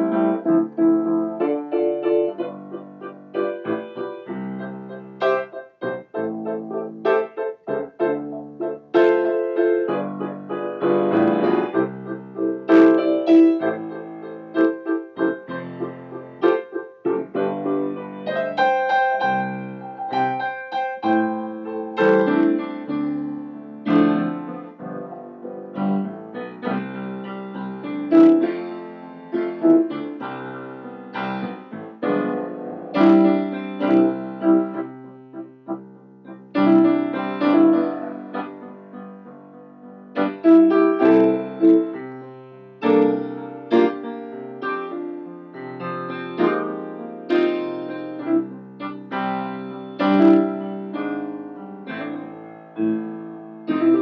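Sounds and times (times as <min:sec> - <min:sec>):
solo grand piano: 0:00.0 - 0:54.0.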